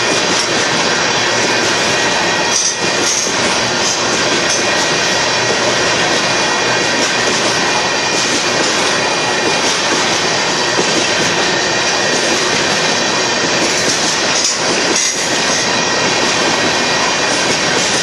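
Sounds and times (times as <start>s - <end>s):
train wheels rumbling and rattling: 0.0s - 18.0s.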